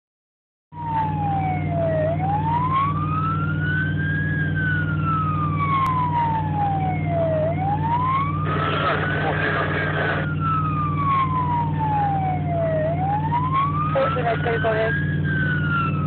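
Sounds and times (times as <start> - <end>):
siren wailing: 0.7 - 16.0
vehicle engine drone: 0.8 - 16.0.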